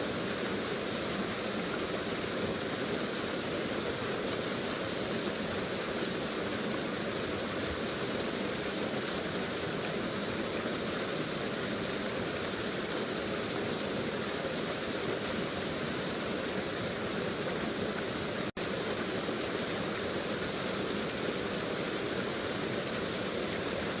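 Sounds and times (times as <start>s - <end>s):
rush of falling water: 0.0s - 24.0s.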